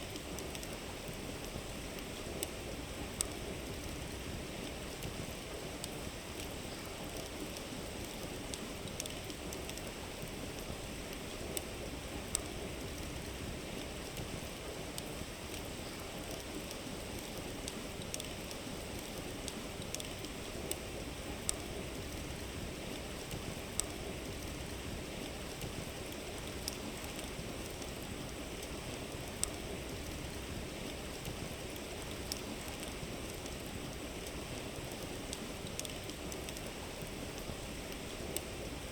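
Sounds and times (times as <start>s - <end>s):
campfire crackling and popping: 0.0s - 38.8s.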